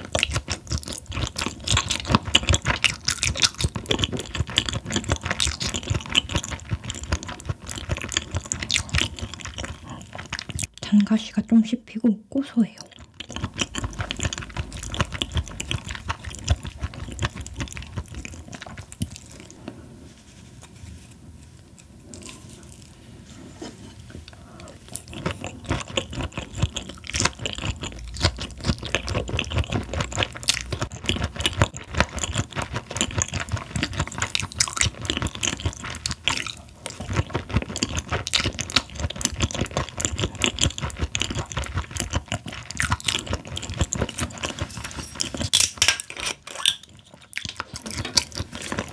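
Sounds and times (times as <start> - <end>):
chewing fish with crunches: 0.0 - 10.8, 12.8 - 19.6, 24.6 - 45.6, 46.2 - 48.9.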